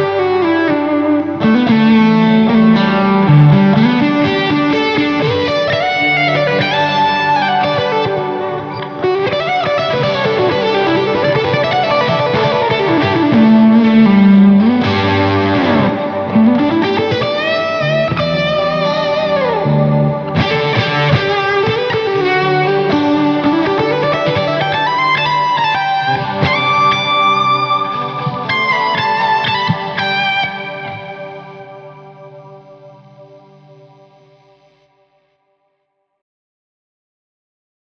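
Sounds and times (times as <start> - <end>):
fuzz-distorted electric guitar lead: 0.0 - 35.2.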